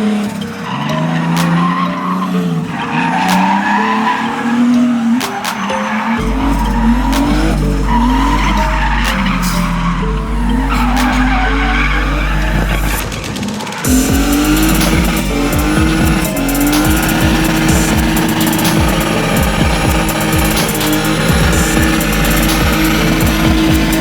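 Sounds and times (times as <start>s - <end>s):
car engine revving: 0.0s - 24.0s
tyres squealing: 0.0s - 24.0s.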